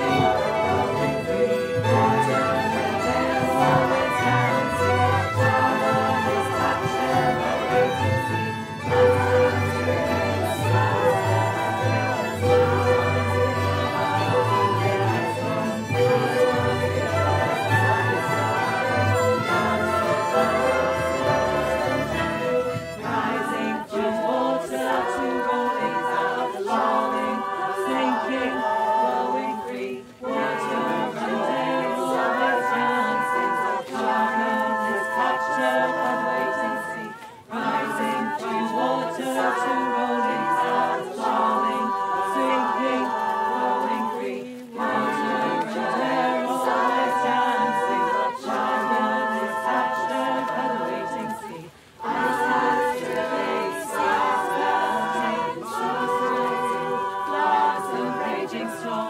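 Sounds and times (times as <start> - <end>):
choir singing unaccompanied: 0.0 - 59.0.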